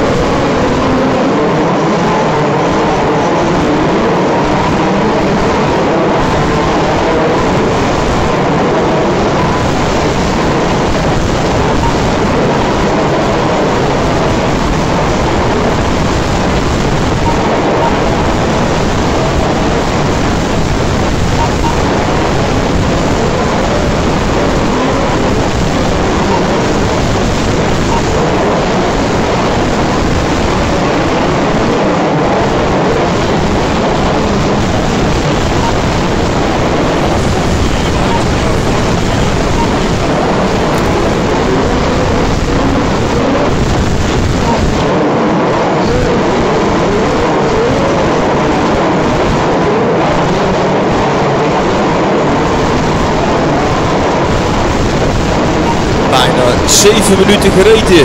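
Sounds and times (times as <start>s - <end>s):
rc car motor and tyre noise: 0.0s - 56.1s
small nitro engines whining: 0.0s - 58.0s.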